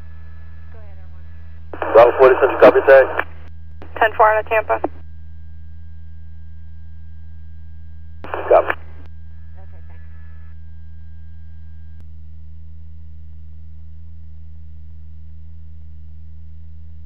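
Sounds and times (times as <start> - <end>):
faint steady tones: 0.0 - 17.0
low electrical hum: 0.0 - 17.0.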